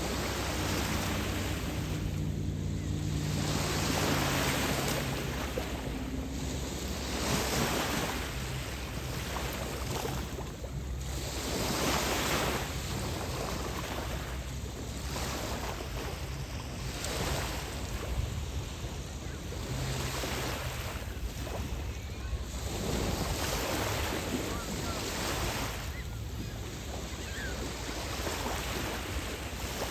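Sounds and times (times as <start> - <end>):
waves washing onto beach: 0.0 - 29.9
wind rumble on microphone: 0.0 - 29.9.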